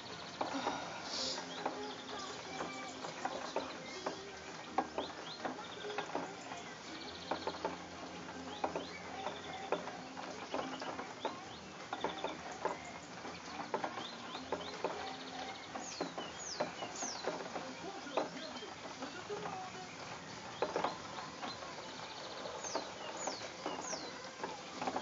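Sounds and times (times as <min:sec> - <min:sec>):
birds chirping: 0:00.0 - 0:25.0
drops ticking: 0:00.0 - 0:25.0
steady rain: 0:00.0 - 0:25.0.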